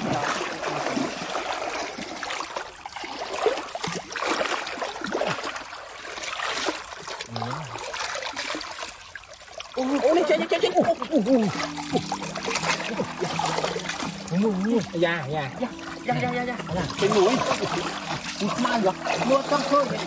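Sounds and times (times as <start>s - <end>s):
stream trickling: 0.0s - 20.0s
water splashing and sloshing: 0.0s - 20.0s.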